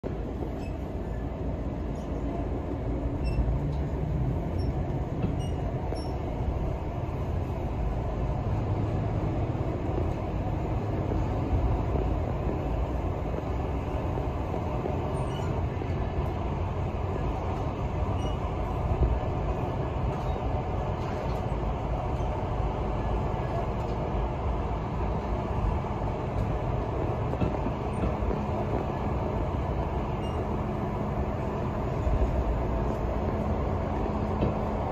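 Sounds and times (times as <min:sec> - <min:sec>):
train wheels rumbling on track: 0:00.0 - 0:34.9.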